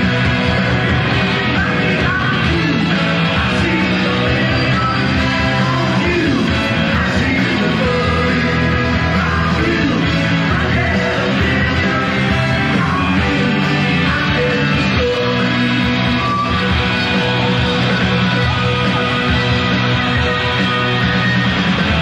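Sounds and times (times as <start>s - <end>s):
person singing: 0.0s - 19.2s
live rock band playing: 0.0s - 22.0s.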